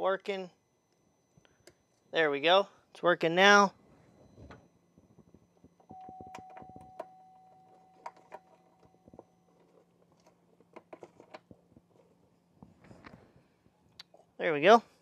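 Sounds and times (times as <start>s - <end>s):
faint steady tone: 0.0s - 15.0s
low steady hum: 0.0s - 15.0s.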